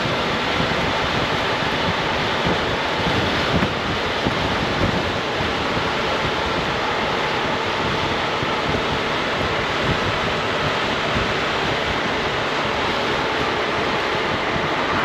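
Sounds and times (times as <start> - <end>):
scooter engine and road noise: 0.0 - 15.0
wind noise on microphone: 0.0 - 15.0.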